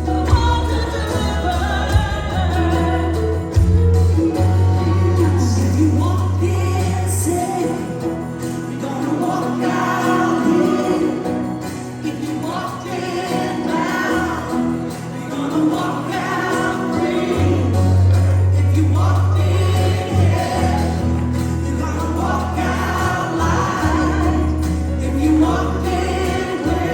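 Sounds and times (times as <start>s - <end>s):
voices singing gospel music: 0.0s - 26.9s.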